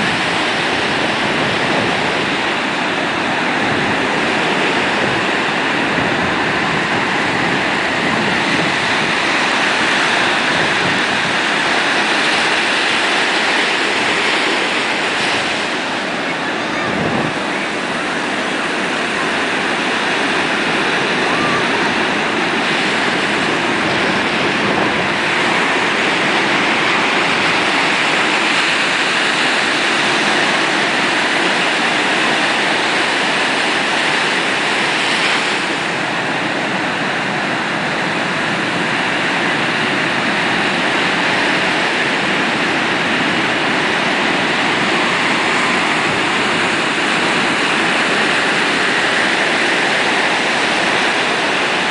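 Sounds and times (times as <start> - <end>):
ocean surf breaking: 0.0 - 51.9.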